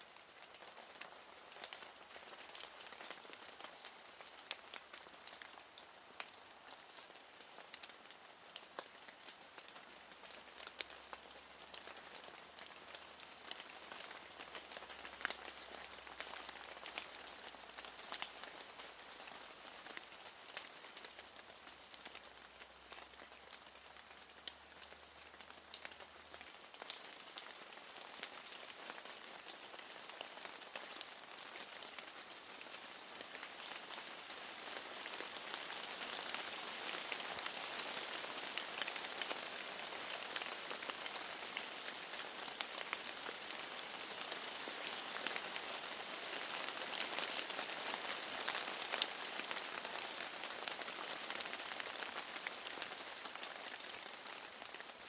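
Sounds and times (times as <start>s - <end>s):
raindrops ticking: 0.0s - 55.0s
steady rain falling: 0.0s - 55.0s.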